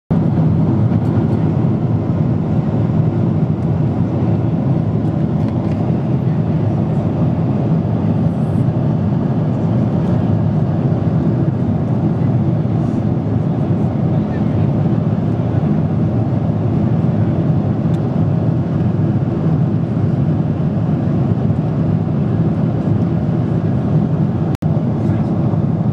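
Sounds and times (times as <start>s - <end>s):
airliner cabin engine drone: 0.1s - 25.9s.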